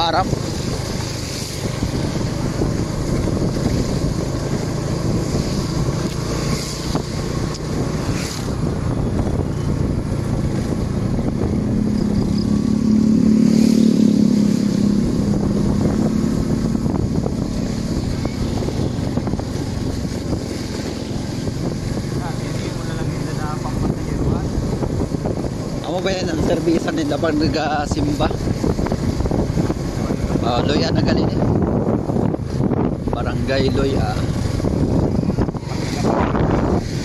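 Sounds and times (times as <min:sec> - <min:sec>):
motorcycle engine running: 0:00.0 - 0:37.0
road noise: 0:00.0 - 0:37.0.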